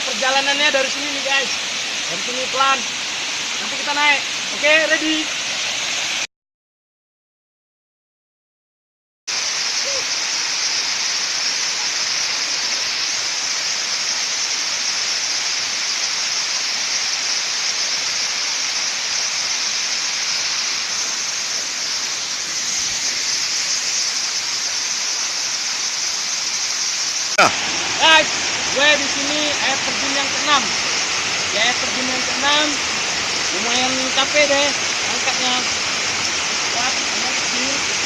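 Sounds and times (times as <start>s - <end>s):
waterfall pouring over rock: 0.0s - 6.3s, 9.3s - 38.0s.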